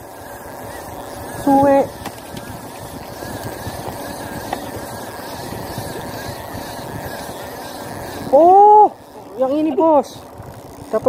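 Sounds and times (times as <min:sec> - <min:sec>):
boat engine humming: 0:00.0 - 0:11.0
wind: 0:00.0 - 0:11.0.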